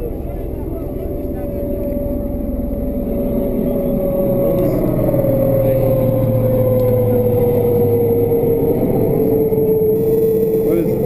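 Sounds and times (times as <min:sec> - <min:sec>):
dense low rumble: 0:00.0 - 0:11.0
vehicle engine humming: 0:00.0 - 0:11.0.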